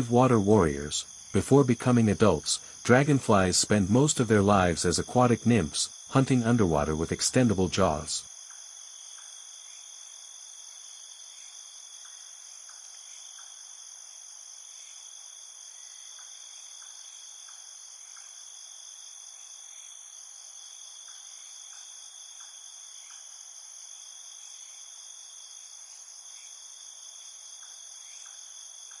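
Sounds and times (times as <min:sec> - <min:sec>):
shrill insect chorus: 0:00.0 - 0:29.0.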